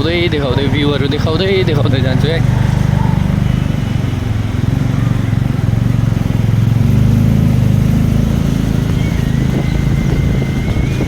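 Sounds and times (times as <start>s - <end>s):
vehicle engine cruising: 0.0s - 11.0s.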